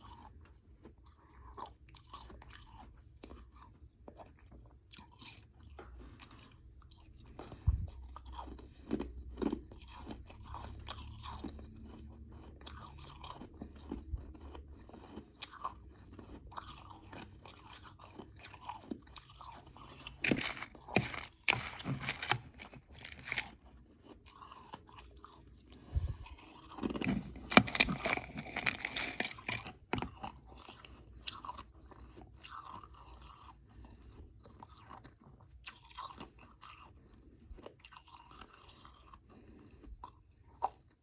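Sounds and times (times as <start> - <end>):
chewing ice crunching: 0.0 - 7.5, 8.1 - 41.0.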